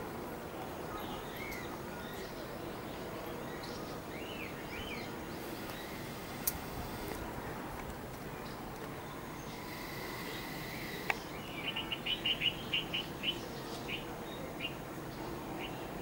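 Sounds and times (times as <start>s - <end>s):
bird chirping: 0.8s - 7.0s, 8.3s - 16.0s.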